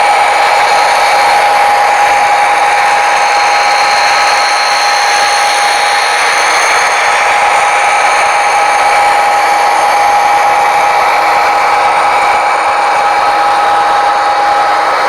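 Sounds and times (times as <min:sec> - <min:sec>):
model train motor whine: 0:00.0 - 0:15.0.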